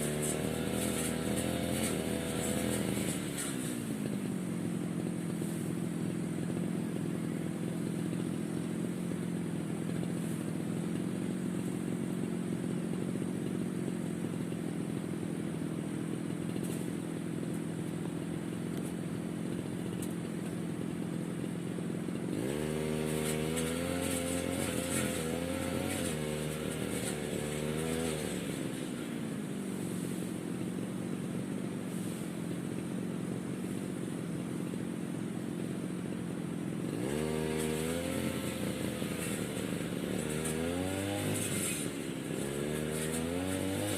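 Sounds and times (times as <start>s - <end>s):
brush cutter engine revving: 0.0s - 43.9s.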